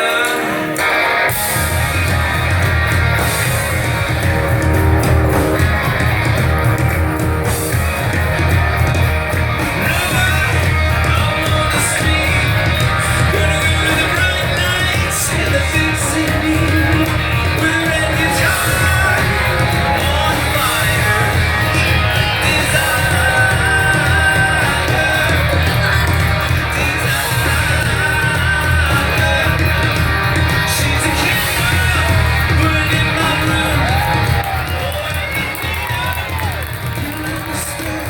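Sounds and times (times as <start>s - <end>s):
person singing: 0.0s - 1.7s, 3.2s - 38.0s
guitar: 0.0s - 38.0s
rock music: 0.0s - 38.0s.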